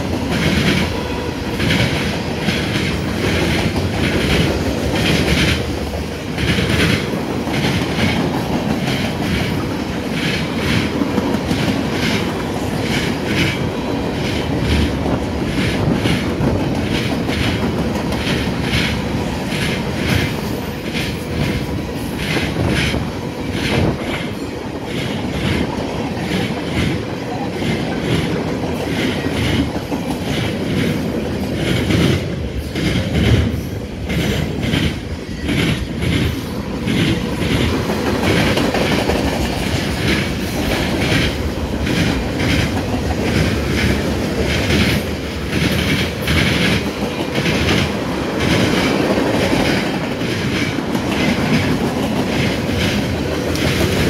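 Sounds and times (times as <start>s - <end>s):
train cars rumbling past: 0.0s - 54.0s
wheels clacking over rail joints: 0.0s - 54.0s.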